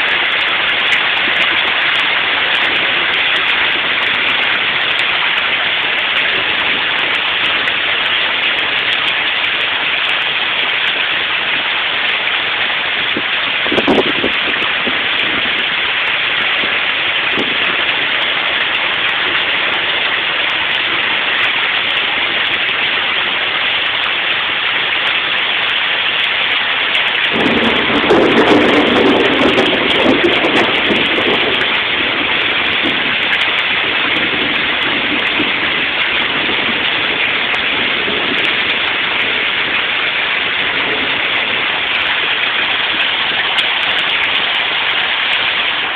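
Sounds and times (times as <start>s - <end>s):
deep rumbling: 0.0s - 45.9s
heavy rain falling: 0.0s - 45.9s.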